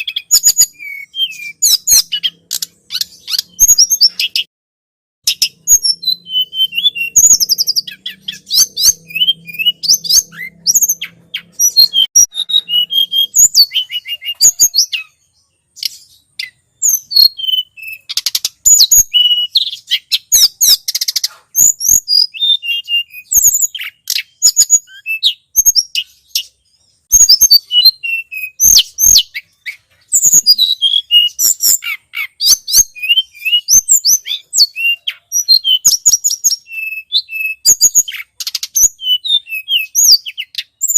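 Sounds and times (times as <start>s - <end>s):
songbird chirps and trills: 0.0s - 4.5s, 5.2s - 40.9s.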